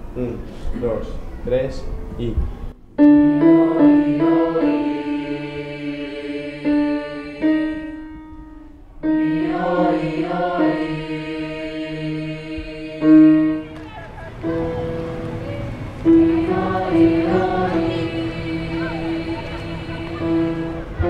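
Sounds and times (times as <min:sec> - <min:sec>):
choir singing held vowels: 0:03.1 - 0:21.0.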